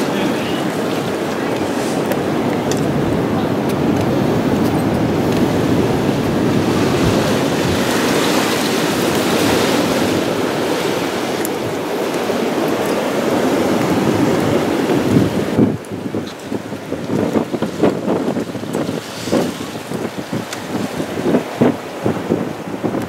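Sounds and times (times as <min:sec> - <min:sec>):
ocean surf: 0:00.0 - 0:23.0
wind rushing over microphone: 0:00.0 - 0:23.0.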